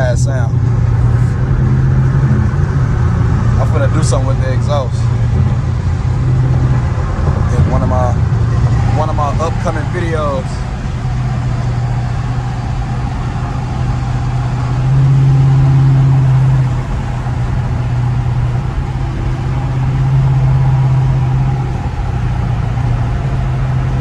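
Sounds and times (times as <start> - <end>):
car exhaust droning: 0.0 - 24.0.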